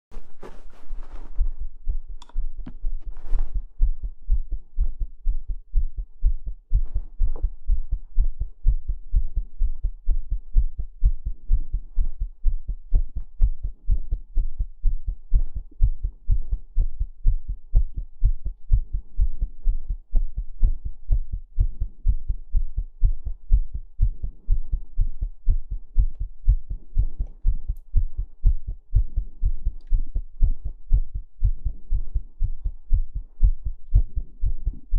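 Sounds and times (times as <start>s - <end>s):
heartbeat thumps: 0.1s - 34.9s.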